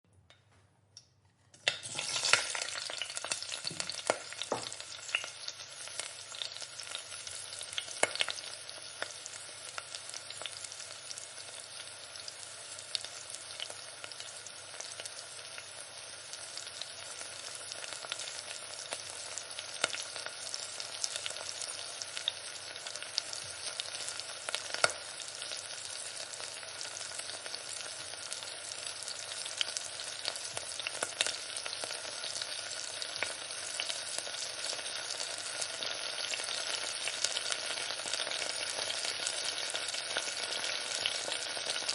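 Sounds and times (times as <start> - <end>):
hot oil sizzling in a pan: 1.6 - 41.9.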